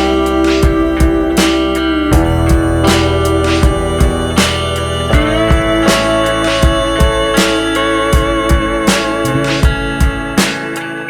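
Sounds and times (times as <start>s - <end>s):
bass line: 0.0s - 11.0s
guitar: 0.0s - 11.0s
steady beat: 0.0s - 11.0s.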